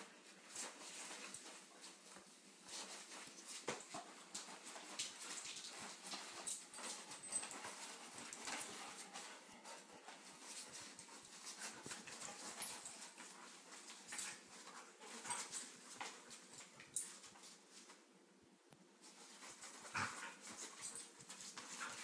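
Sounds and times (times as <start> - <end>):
dogs scuffling: 0.0 - 18.1, 19.0 - 22.0.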